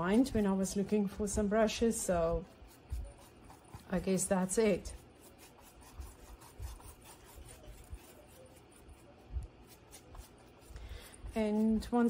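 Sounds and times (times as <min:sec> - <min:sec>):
paintbrush scratching on canvas: 0:00.0 - 0:12.0.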